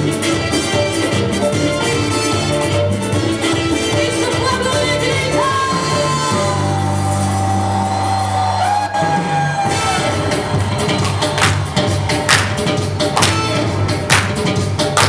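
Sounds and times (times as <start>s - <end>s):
merengue music: 0.0s - 15.0s
steady bass line: 0.0s - 15.0s.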